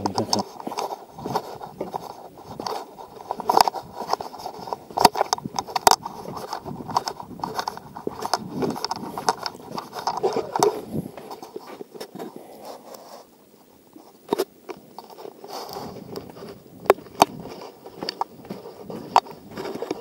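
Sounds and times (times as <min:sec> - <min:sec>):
footsteps on gravel: 0:00.0 - 0:13.0, 0:14.2 - 0:20.0.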